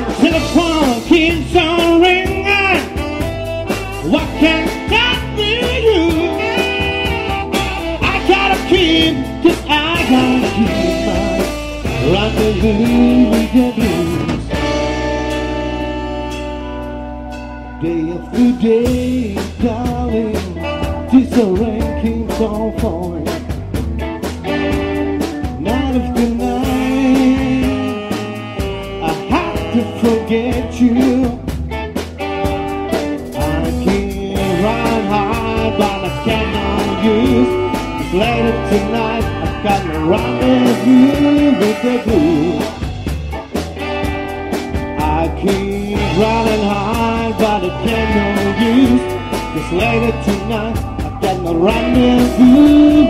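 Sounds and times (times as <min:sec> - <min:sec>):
person singing: 0:00.0 - 0:15.0, 0:15.8 - 0:23.6, 0:25.4 - 0:31.5, 0:33.3 - 0:42.9, 0:45.0 - 0:53.0
live blues band playing: 0:00.0 - 0:53.0.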